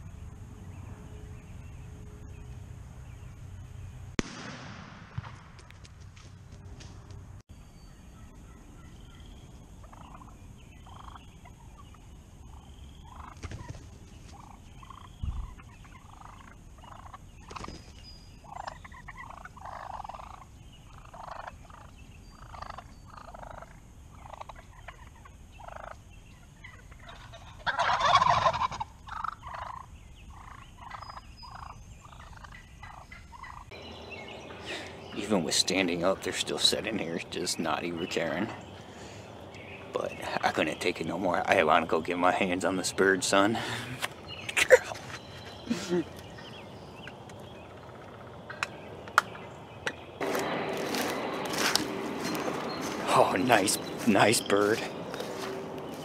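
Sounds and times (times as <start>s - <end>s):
wild turkeys calling: 8.1s - 56.0s.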